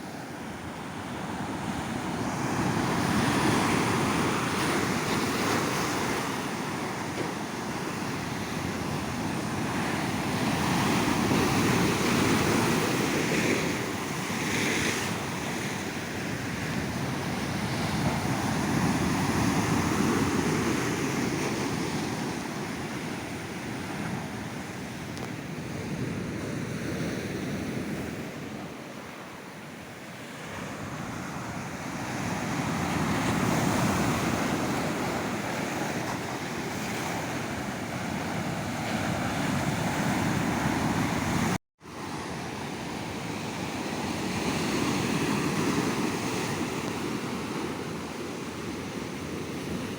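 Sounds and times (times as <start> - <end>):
sea waves breaking on beach: 0.0 - 49.9.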